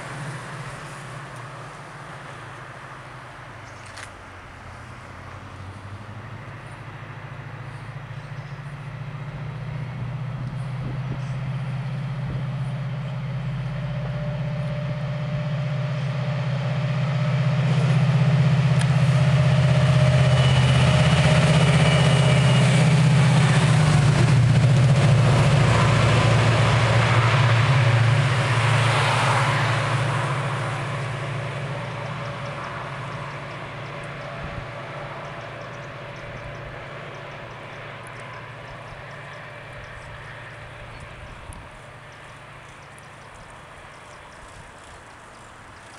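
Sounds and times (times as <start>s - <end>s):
diesel locomotive engines rumbling: 0.0s - 45.9s
rushing noise of passing train: 0.0s - 45.9s.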